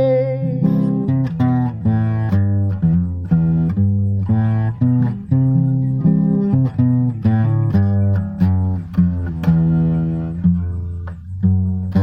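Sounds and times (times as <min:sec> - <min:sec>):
acoustic guitar strumming chords: 0:00.0 - 0:12.0
bass line: 0:00.0 - 0:12.0.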